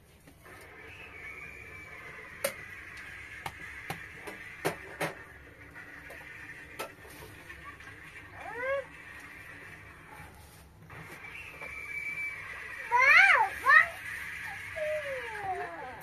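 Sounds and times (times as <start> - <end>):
steady high whine: 0.0 - 16.0.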